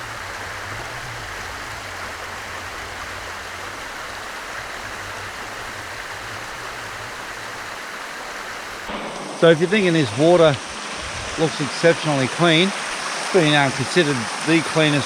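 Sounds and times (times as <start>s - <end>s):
waterfall and creek flowing: 0.0s - 15.0s.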